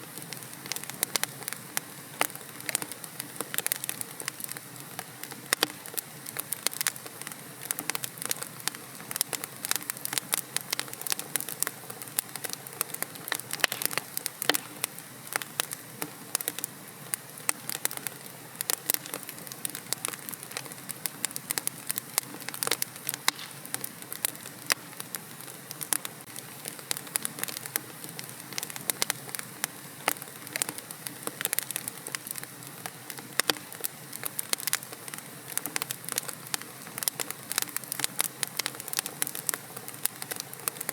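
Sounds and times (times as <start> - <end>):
fire hissing softly: 0.0 - 40.9
wood fire crackling and popping: 0.0 - 40.9.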